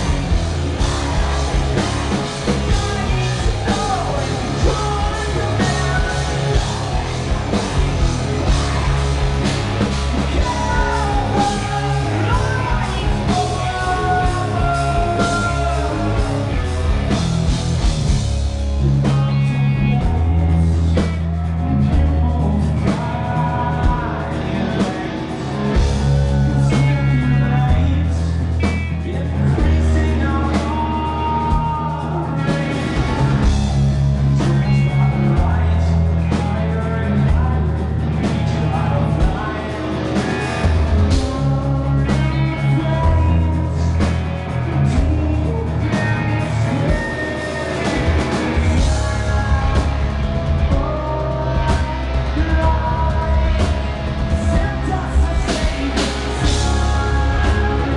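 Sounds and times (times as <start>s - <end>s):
man singing: 0.0s - 17.5s, 18.7s - 57.9s
live rock band: 0.0s - 57.9s.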